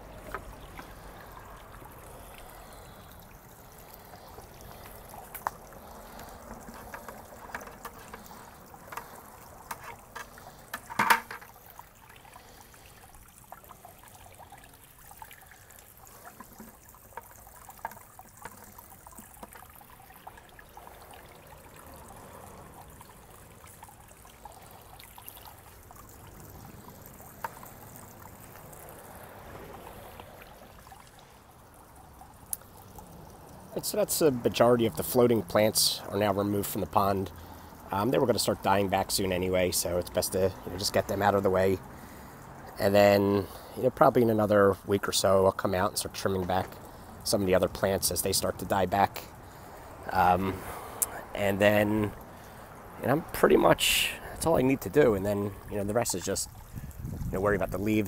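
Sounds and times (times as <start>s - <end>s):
small water drips and splashes: 0.0s - 58.0s
waterfall trickling into pond: 0.0s - 58.0s.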